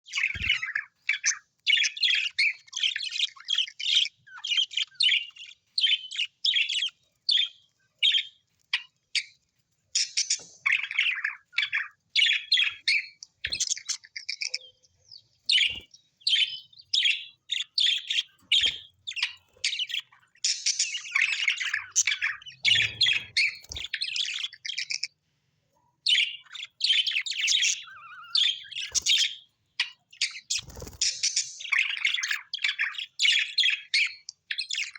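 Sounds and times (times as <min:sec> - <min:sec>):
parrots chirping and chattering: 0:00.0 - 0:34.9.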